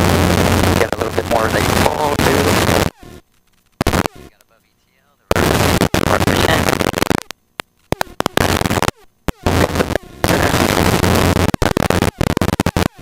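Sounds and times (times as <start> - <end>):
helicopter cabin and wind noise: 0.0 - 2.9, 5.3 - 13.0.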